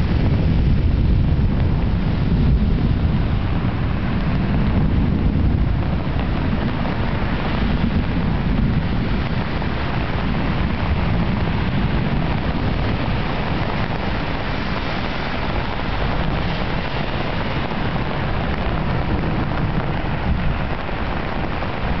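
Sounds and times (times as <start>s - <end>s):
heavy low rumble: 0.0s - 22.0s
torrential rain on street: 0.0s - 22.0s.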